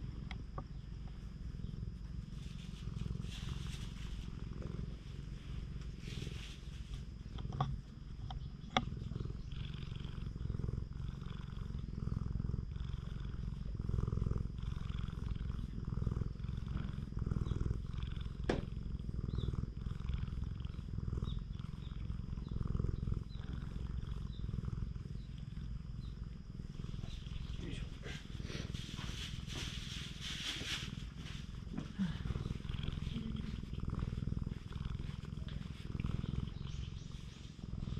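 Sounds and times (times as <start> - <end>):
cat purring: 0.0 - 37.9.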